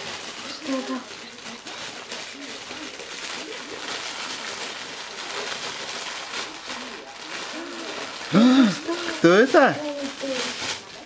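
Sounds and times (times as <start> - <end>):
wrapping paper rustling and crinkling: 0.0 - 11.0.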